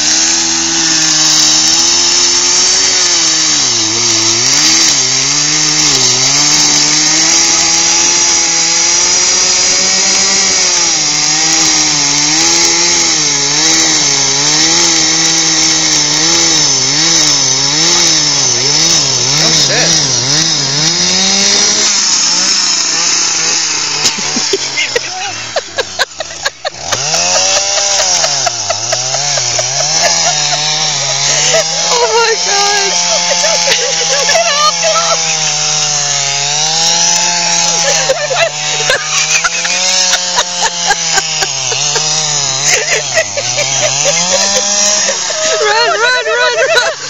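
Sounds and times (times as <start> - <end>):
ice auger engine revving: 0.0 - 47.0.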